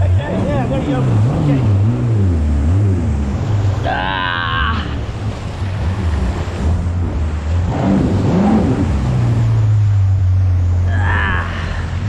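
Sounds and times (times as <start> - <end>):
jet ski engine running under load: 0.0 - 12.0
rushing water: 0.0 - 12.0
wind: 0.0 - 12.0.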